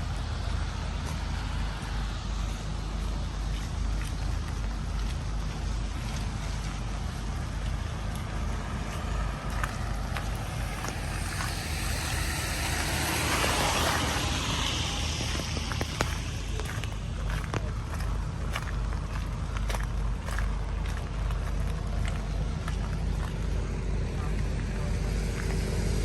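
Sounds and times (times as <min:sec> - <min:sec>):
street noise with low rumble: 0:00.0 - 0:26.0
tyre hiss on wet street: 0:00.0 - 0:26.0.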